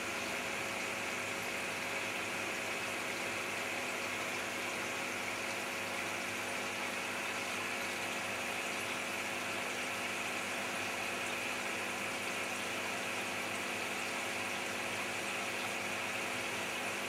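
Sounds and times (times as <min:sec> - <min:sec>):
aquarium filter hum and hiss: 0:00.0 - 0:17.0.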